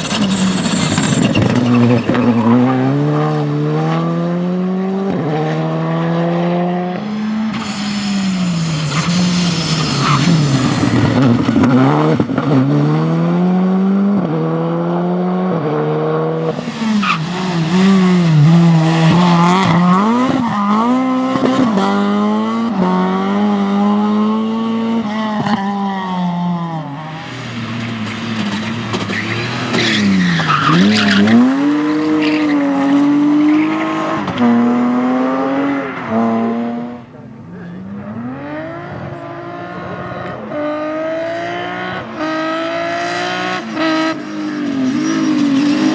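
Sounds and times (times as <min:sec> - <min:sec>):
tyres skidding and squealing: 0:00.0 - 0:12.6, 0:16.3 - 0:22.3, 0:26.8 - 0:45.9
rally car engines revving: 0:00.0 - 0:45.9.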